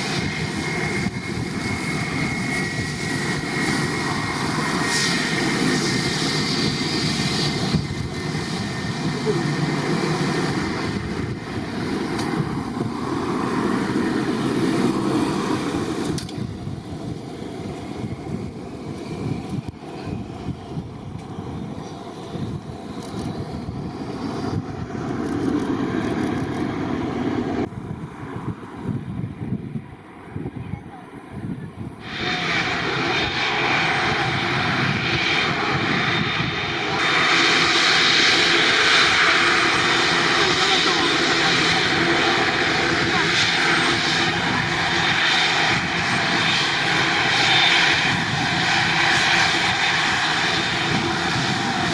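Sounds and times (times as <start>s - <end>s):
jet engines rumbling: 0.0s - 51.9s.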